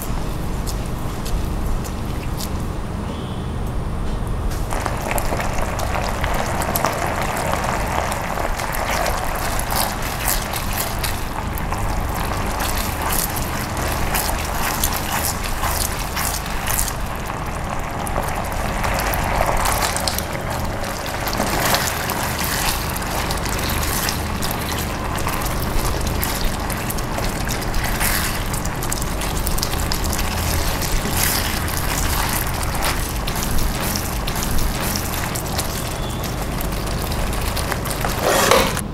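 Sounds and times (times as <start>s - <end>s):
thick sauce bubbling and popping: 0.0s - 2.8s, 4.5s - 38.8s
spatula stirring in a pan: 4.8s - 38.8s.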